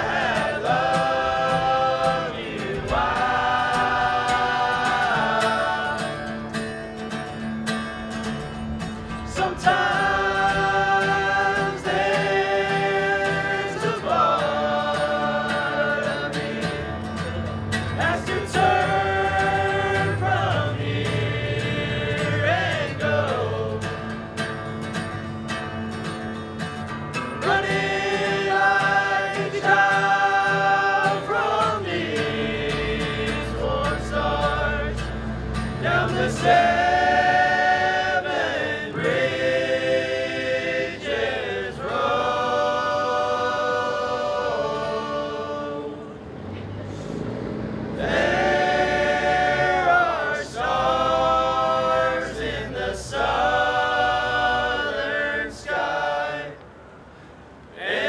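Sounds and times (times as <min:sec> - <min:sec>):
men singing in harmony: 0:00.0 - 0:07.1, 0:08.4 - 0:24.3, 0:27.4 - 0:46.5, 0:47.2 - 0:56.8, 0:57.6 - 0:58.0.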